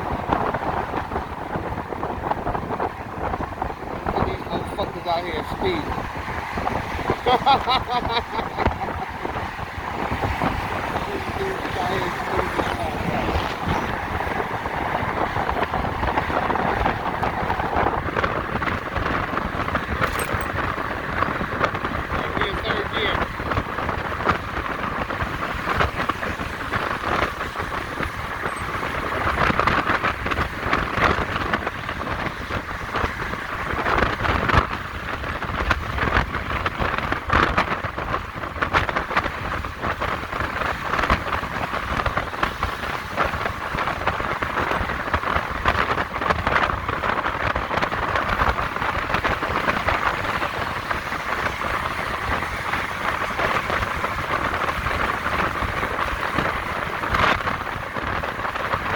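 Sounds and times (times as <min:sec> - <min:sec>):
constant crackle: 0:00.0 - 0:58.9
wind and road noise: 0:00.0 - 0:58.9.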